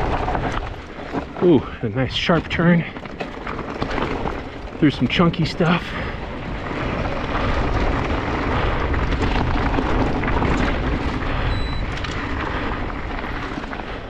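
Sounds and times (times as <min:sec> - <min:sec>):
bike rattles and clicks: 0:00.0 - 0:14.0
tyres rumbling on rock: 0:00.0 - 0:14.0.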